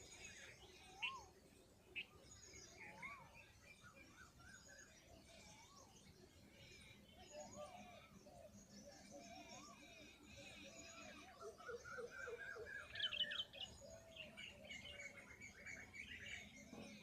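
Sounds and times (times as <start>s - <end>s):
birds twittering: 0.0s - 17.0s
small birds chirping: 0.0s - 17.0s.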